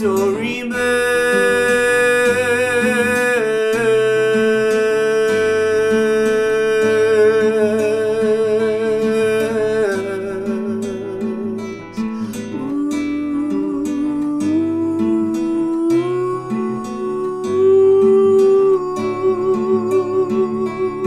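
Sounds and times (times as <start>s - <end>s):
acoustic guitar playing: 0.0s - 21.0s
long held wavering melody note: 0.0s - 21.0s.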